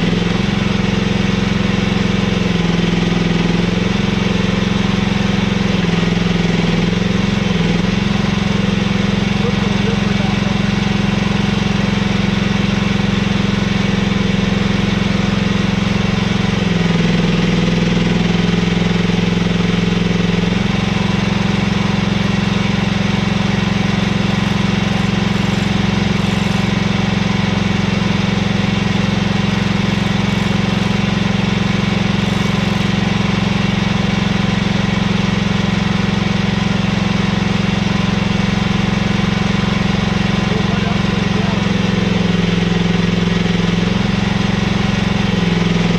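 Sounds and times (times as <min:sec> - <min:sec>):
excavator engine running: 0:00.0 - 0:45.9.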